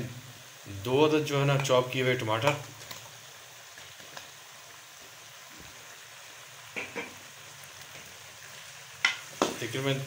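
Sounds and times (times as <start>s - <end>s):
oil sizzling with frying food: 0.0s - 10.0s.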